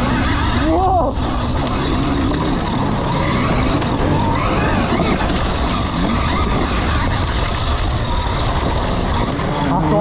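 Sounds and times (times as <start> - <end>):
electric motor whine: 0.0 - 10.0
tyre and chassis noise over stones: 0.0 - 10.0.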